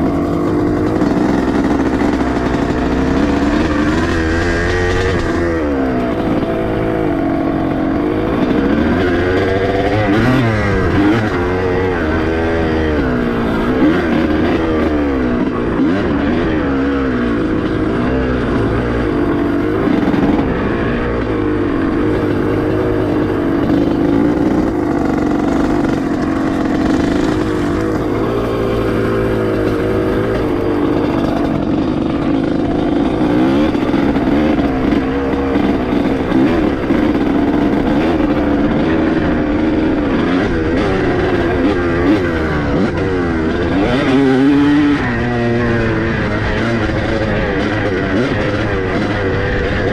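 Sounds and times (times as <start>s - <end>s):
dirt bike engine: 0.0s - 49.9s.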